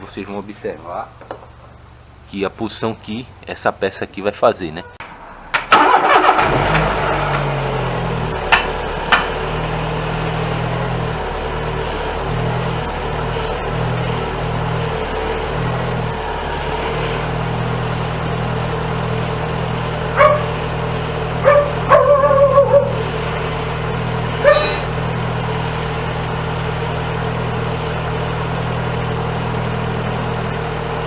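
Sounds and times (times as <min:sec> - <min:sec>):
car engine idling: 0:00.0 - 0:04.2, 0:04.8 - 0:31.0.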